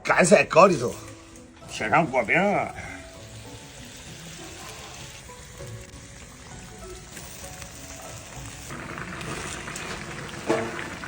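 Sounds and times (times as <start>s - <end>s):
soft background music: 0.0s - 11.0s
wok hissing: 0.0s - 11.0s.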